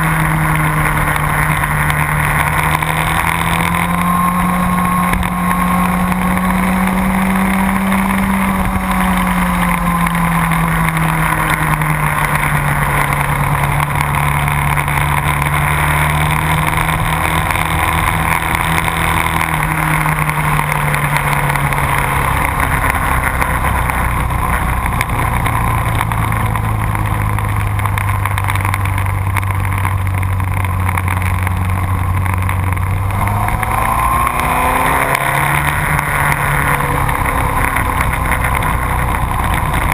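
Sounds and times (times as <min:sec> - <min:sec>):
motorcycle engine running: 0:00.0 - 0:39.9
steady rush of noise: 0:00.0 - 0:39.9.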